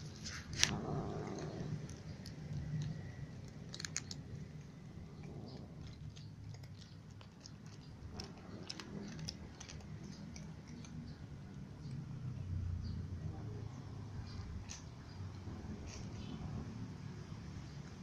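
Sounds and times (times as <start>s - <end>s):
cats crunching dry kibble: 0.0s - 12.6s, 14.2s - 16.6s.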